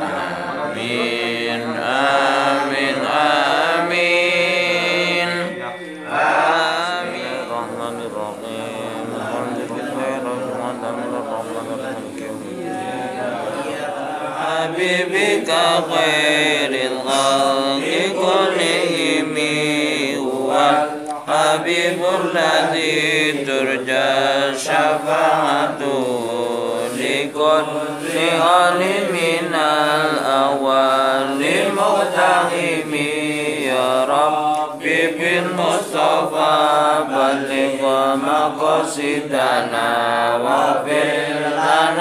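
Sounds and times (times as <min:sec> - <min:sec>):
men chanting together: 0:00.0 - 0:42.0.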